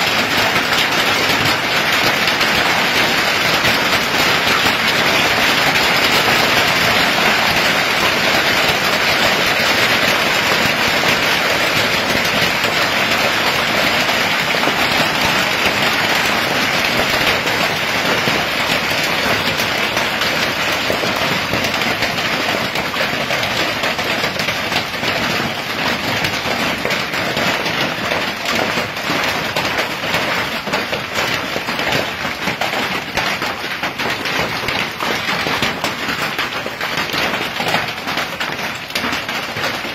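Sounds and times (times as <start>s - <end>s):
hail and heavy rain pelting: 0.0s - 39.9s.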